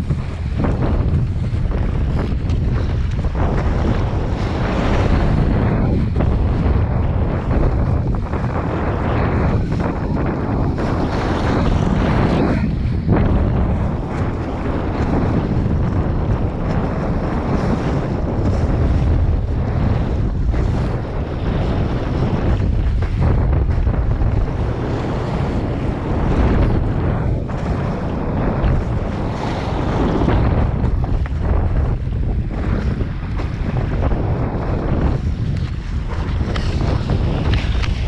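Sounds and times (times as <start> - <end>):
water splashing along hull: 0.0 - 38.0
wind buffeting microphone: 0.0 - 38.0.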